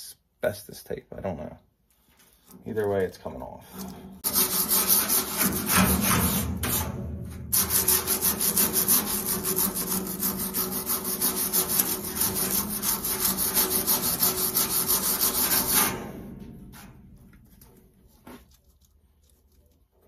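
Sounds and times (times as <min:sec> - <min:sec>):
wire brush scrubbing metal: 0:03.7 - 0:19.8.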